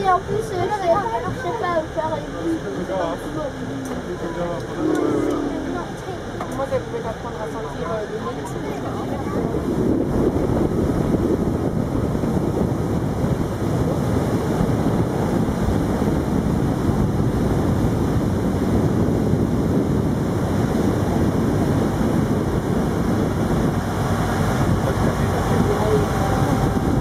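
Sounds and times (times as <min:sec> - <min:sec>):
water rushing past hull: 0:00.0 - 0:27.0
wind buffeting microphone: 0:00.0 - 0:27.0.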